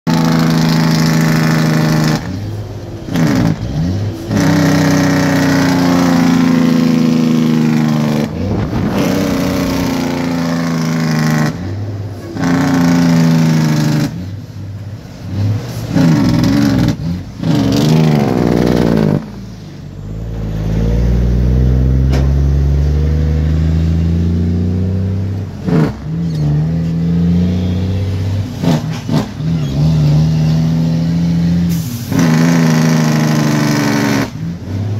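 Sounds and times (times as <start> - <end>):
truck diesel engine revving: 0.1 - 34.9.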